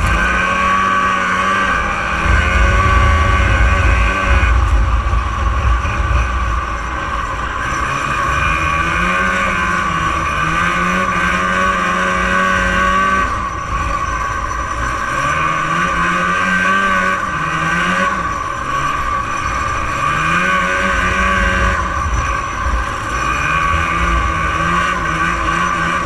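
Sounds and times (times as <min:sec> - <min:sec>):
two-stroke snowmobile engine revving: 0:00.0 - 0:26.0.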